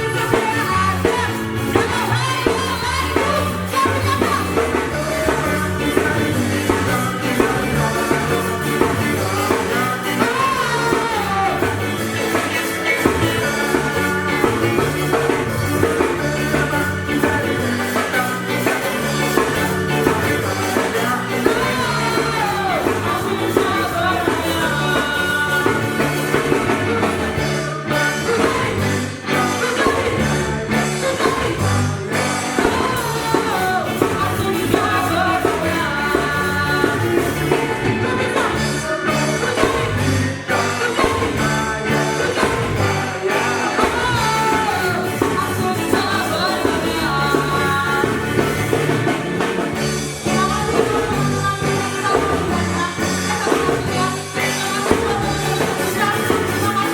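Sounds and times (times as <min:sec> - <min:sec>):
ska band with singer: 0:00.0 - 0:56.9.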